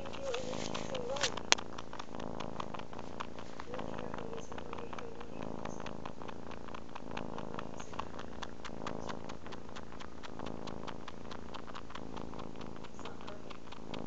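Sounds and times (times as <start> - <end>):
kitten purring: 0.0 - 14.0
wet suckling clicks: 0.0 - 14.0.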